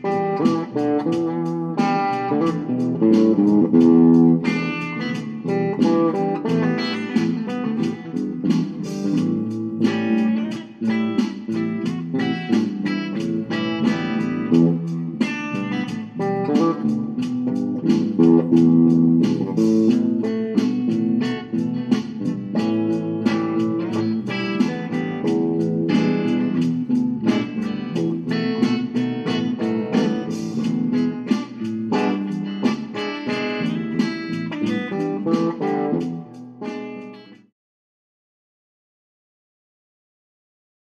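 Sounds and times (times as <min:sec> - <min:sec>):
bass line: 0:00.0 - 0:36.1
plucked guitar notes: 0:00.0 - 0:37.4.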